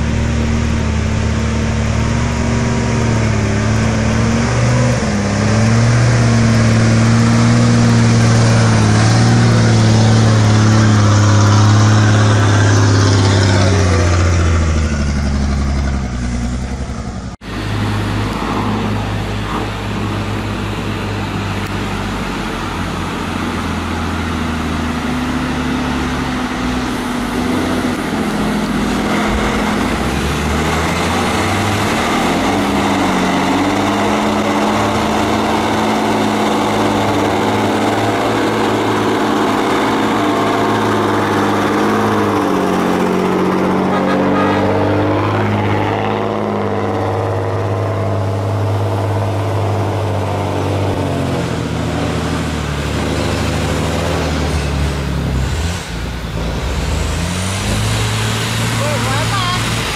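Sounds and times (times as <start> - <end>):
truck diesel engine labouring: 0.0 - 59.9
truck engine running steadily: 0.0 - 59.9.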